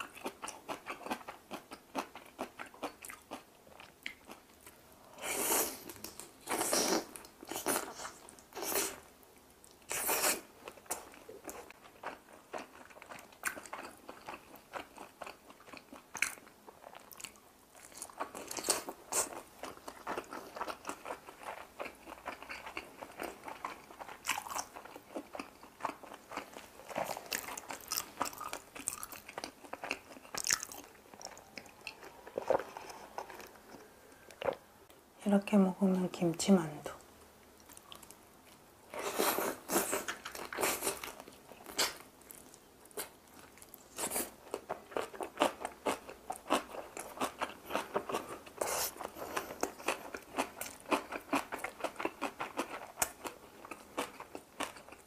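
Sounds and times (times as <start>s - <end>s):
person chewing crunchy dumplings: 0.0s - 34.7s, 37.5s - 55.0s.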